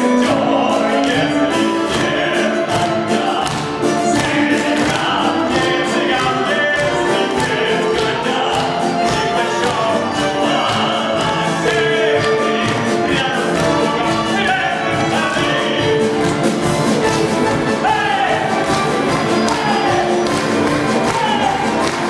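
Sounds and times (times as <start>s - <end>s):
orchestra playing operetta music: 0.0s - 22.0s.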